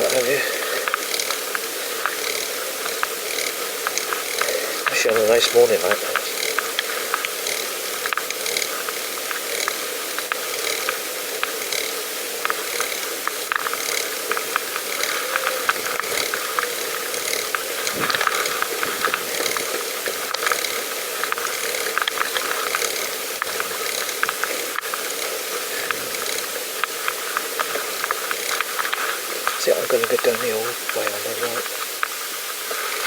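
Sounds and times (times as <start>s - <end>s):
bicycle freewheel ticking: 0.0s - 33.0s
faint steady hum: 0.0s - 33.0s.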